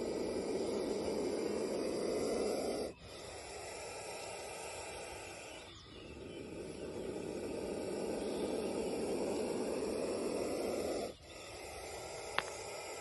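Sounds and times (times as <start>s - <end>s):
snake hissing: 0.0s - 13.0s.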